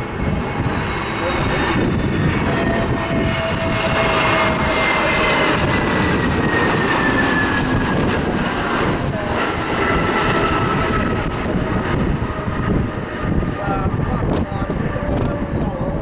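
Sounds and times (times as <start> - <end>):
high engine whine: 0.0 - 16.0
jet engines running: 0.0 - 16.0.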